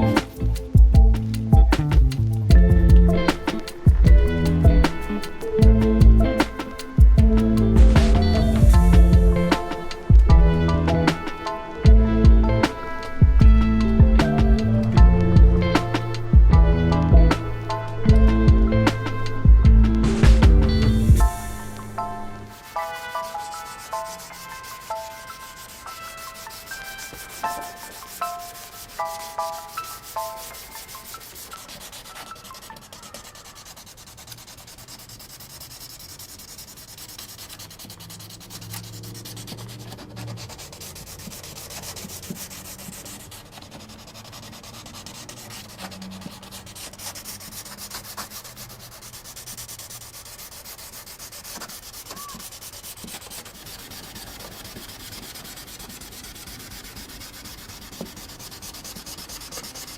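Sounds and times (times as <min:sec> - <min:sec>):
steady sanding or rubbing: 0:00.0 - 0:59.9.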